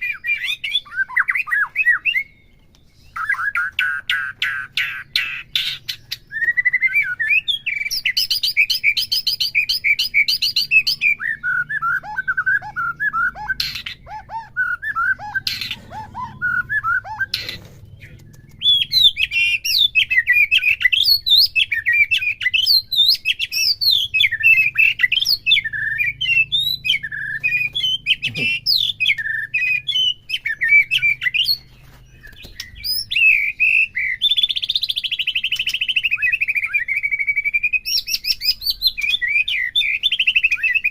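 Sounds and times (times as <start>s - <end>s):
bird singing varied song: 0.0s - 40.9s.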